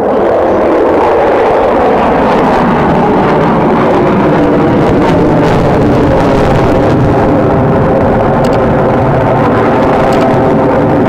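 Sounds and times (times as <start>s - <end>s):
fighter jet roar: 0.0s - 11.0s.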